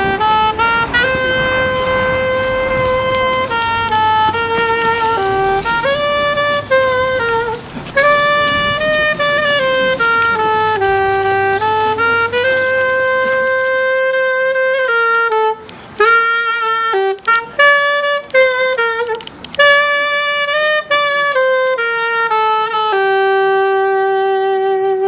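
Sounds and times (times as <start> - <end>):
solo saxophone melody: 0.0 - 25.0.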